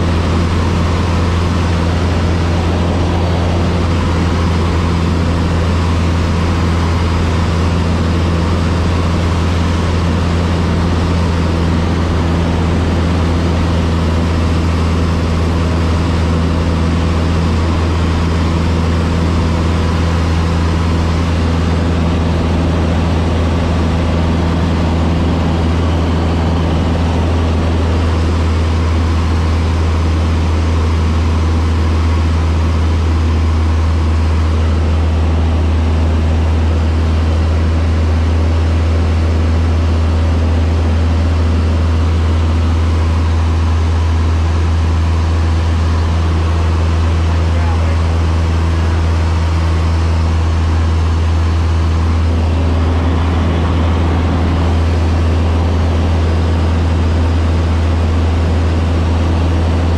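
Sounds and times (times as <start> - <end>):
propeller plane engine droning: 0.0 - 59.9.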